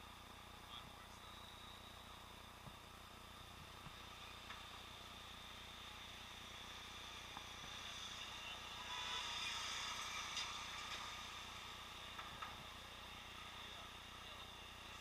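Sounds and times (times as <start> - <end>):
muffled city traffic hiss: 0.0 - 15.0.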